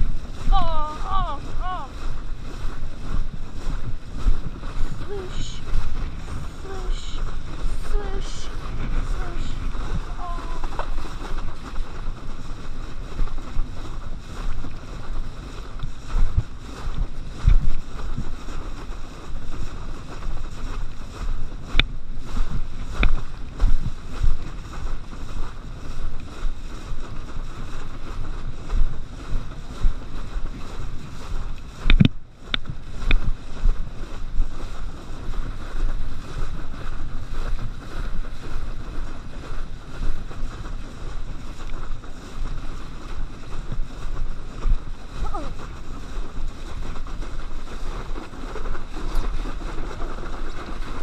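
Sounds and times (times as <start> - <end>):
water rushing under board: 0.0 - 51.0
wind buffeting microphone: 0.0 - 51.0.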